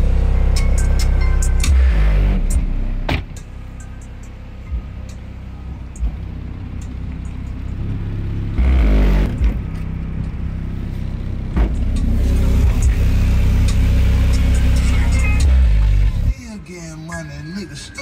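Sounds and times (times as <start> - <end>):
music with heavy deep bass: 0.0 - 18.0.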